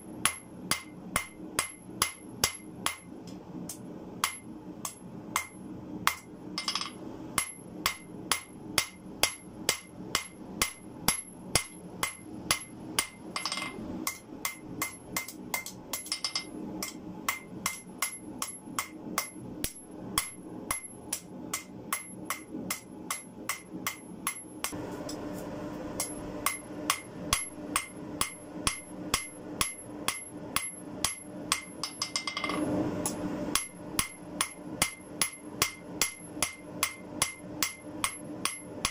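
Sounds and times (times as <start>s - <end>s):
hammer striking metal on anvil: 0.0s - 25.2s, 26.0s - 38.9s.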